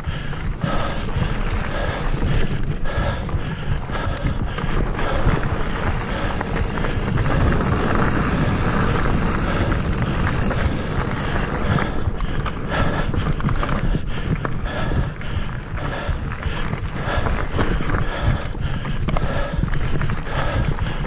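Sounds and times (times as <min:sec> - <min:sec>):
mountain bike tyre noise: 0:00.0 - 0:21.0
wind rumbling on microphone: 0:00.0 - 0:21.0.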